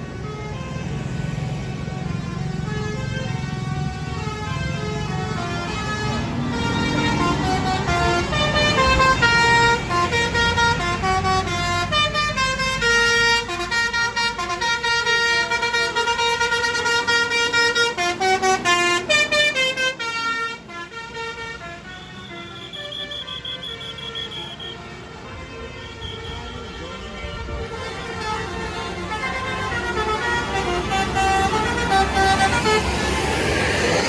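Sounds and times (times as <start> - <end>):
musical air horn playing a tune: 4.1 - 34.0.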